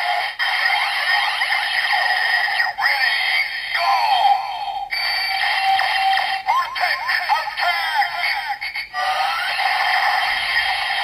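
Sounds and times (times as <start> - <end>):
toy electronic sound effect: 0.0 - 11.0.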